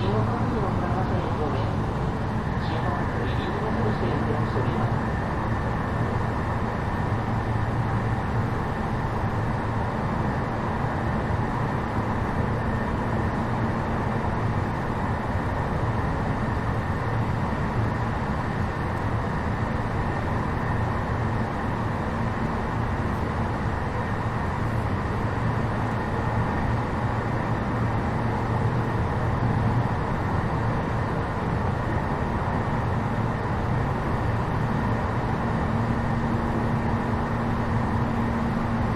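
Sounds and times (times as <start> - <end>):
electric train mechanical hum: 0.0 - 38.9.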